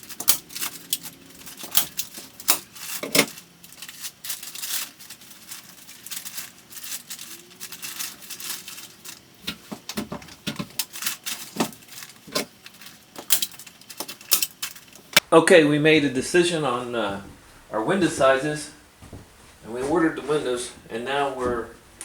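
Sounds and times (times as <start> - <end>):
light rustling: 0.0 - 22.0.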